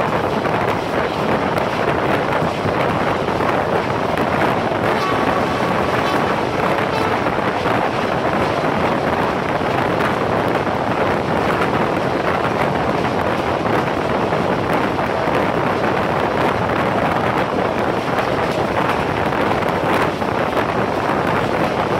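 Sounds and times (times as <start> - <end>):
train running noise at speed: 0.0 - 21.9
wind buffeting microphone: 0.0 - 21.9.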